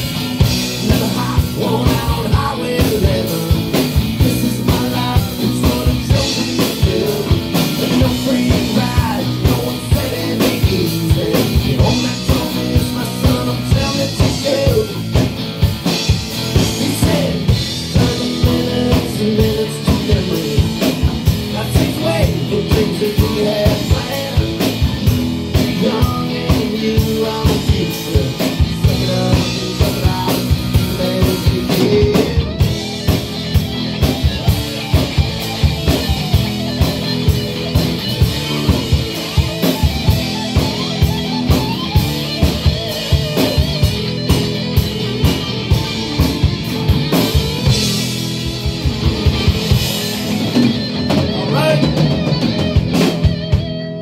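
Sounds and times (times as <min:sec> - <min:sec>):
drum kit beat: 0:00.0 - 0:54.0
rock band playing: 0:00.0 - 0:54.0.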